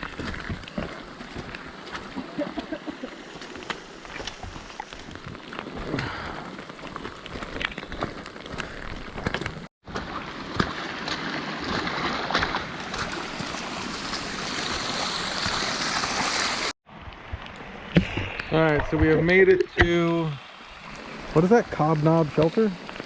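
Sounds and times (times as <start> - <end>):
water running down a trail: 0.0 - 16.7, 20.1 - 23.0.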